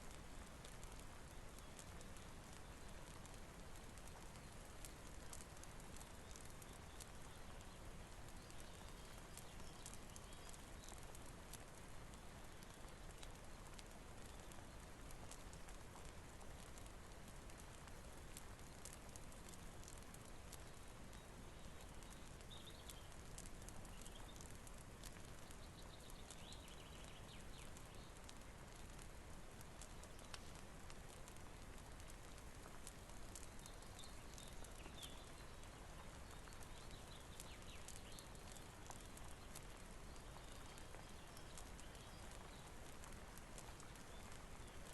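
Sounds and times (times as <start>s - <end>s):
faint rain hiss: 0.0s - 44.9s
wood fire crackling: 0.0s - 44.9s.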